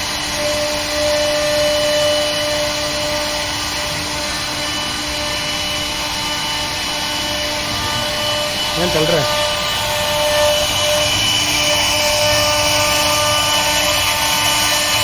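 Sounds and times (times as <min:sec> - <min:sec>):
wood router running with whine: 0:00.0 - 0:15.0.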